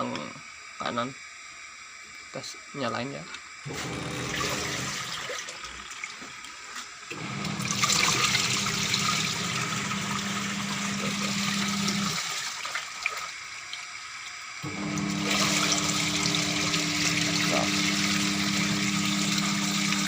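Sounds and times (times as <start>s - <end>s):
washing machine motor humming: 3.6s - 20.0s.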